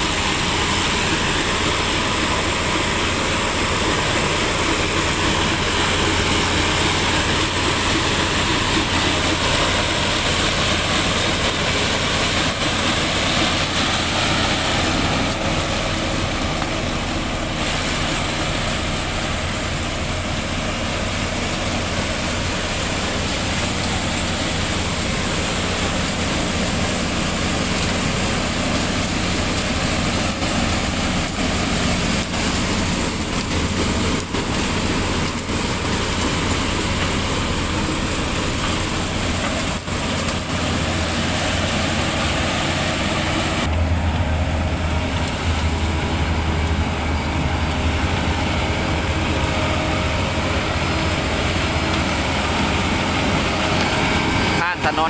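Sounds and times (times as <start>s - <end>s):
harvester engine hum: 0.0s - 55.0s.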